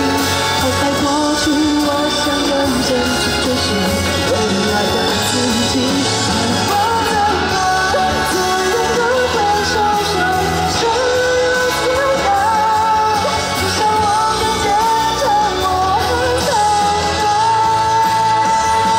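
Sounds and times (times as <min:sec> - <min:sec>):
pop-rock song: 0:00.0 - 0:18.9.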